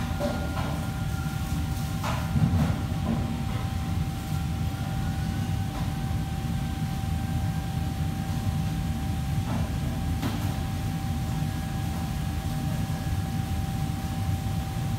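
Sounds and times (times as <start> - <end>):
kitchen machinery rumble: 0.0 - 14.9.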